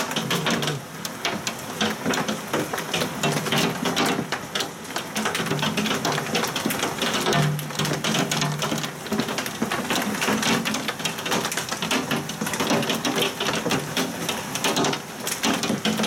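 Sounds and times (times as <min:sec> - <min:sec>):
hail clattering: 0:00.0 - 0:16.0
heavy rain: 0:00.0 - 0:16.0.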